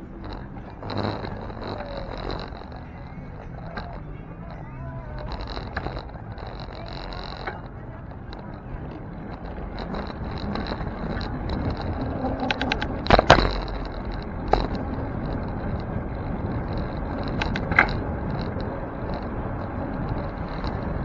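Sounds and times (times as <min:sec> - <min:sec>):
bicycle knocking and rattling: 0:00.0 - 0:21.0
wind and road noise: 0:00.0 - 0:21.0.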